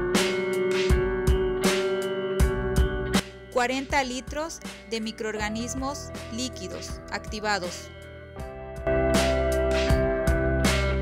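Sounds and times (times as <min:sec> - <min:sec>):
guitar over a steady beat: 0:00.0 - 0:11.0.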